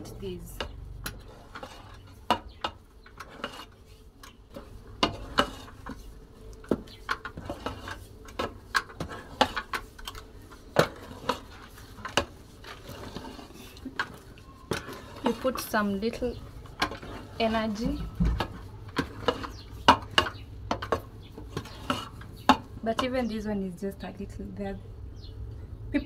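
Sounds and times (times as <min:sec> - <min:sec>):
spoon stirring food in a pot: 0:00.0 - 0:23.5.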